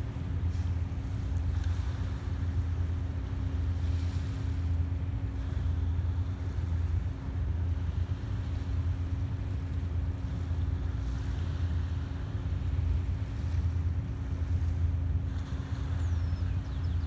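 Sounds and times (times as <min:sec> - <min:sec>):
boat diesel engine droning: 0:00.0 - 0:17.0.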